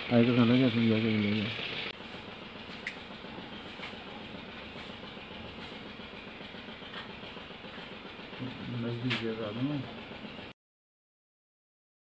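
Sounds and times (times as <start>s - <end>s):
steady rumbling: 0.0s - 10.5s.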